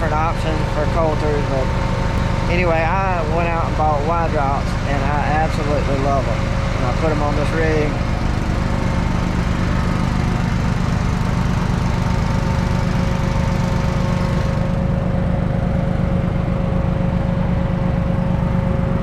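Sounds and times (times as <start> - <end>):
farm machinery engine running: 0.0 - 19.0.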